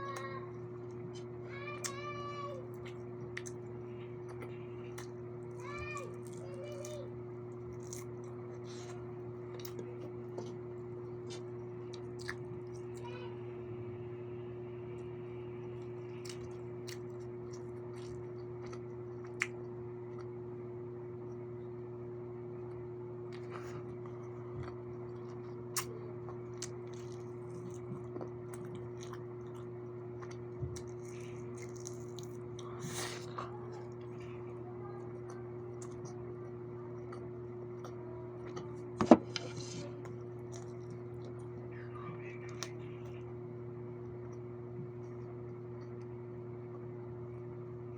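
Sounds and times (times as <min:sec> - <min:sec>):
soft eating clicks: 0:00.0 - 0:13.2, 0:15.0 - 0:20.4, 0:22.6 - 0:41.7, 0:43.9 - 0:47.4
low electrical hum: 0:00.0 - 0:47.9.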